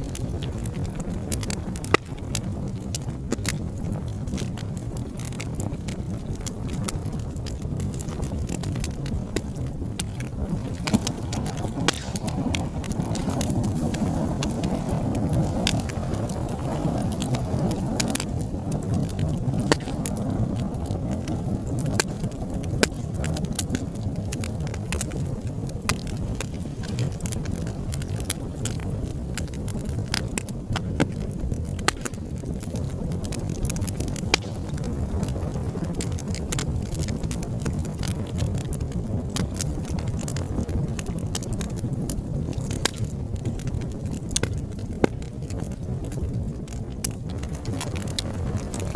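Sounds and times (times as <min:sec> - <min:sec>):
fire crackling in a fireplace: 0:00.0 - 0:48.9.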